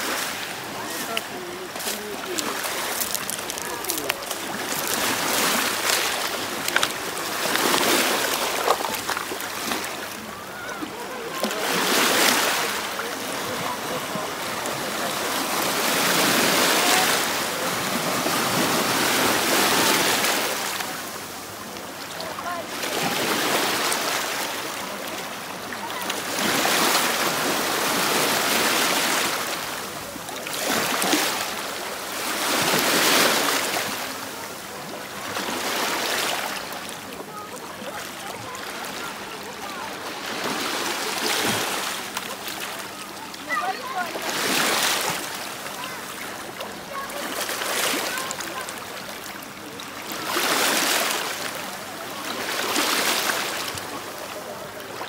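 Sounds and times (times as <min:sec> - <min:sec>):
sea waves washing over pebbles: 0:00.0 - 0:55.0.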